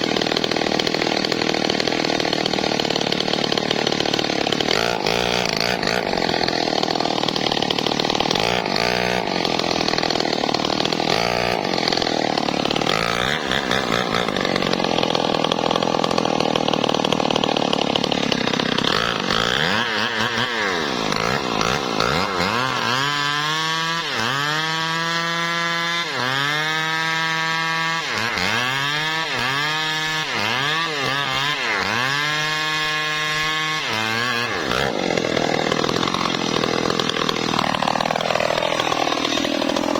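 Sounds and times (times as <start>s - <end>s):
chainsaw cutting wood: 0.0s - 39.9s
chainsaw engine revving: 0.0s - 39.9s.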